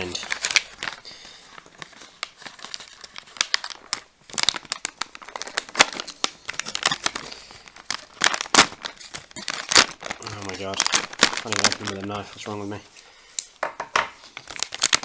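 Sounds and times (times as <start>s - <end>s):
plastic pouch crinkling: 0.0s - 13.6s, 14.2s - 15.0s.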